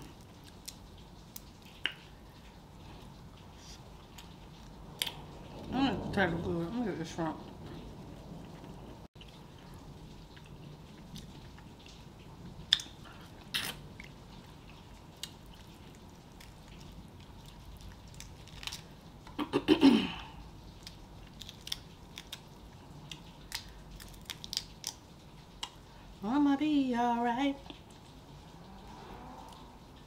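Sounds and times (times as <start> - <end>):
chewing and wet mouth sounds: 0.0 - 5.7, 7.2 - 19.4, 20.4 - 26.2, 27.6 - 30.0.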